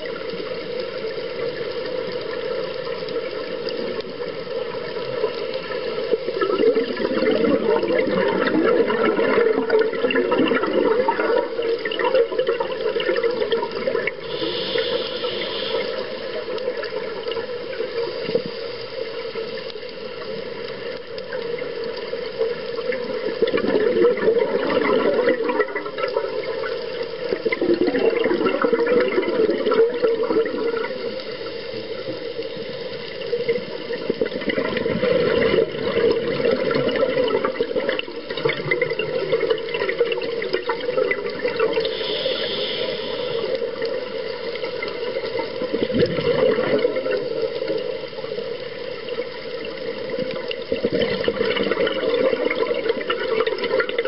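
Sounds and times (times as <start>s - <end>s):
diver's bubbles gurgling: 0.0s - 54.0s
underwater wash: 0.0s - 54.0s.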